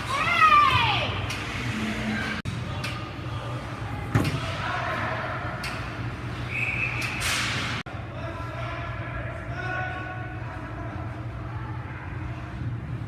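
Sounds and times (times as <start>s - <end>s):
crowd voices in arena: 0.0s - 13.0s.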